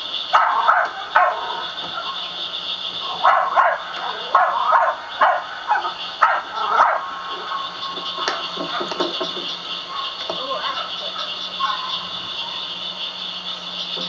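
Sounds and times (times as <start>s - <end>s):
dog barking: 0.3s - 12.9s.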